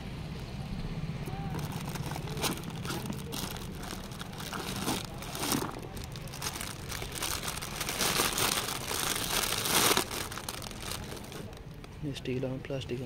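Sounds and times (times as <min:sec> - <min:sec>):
plastic packaging crinkling: 0:01.4 - 0:11.9.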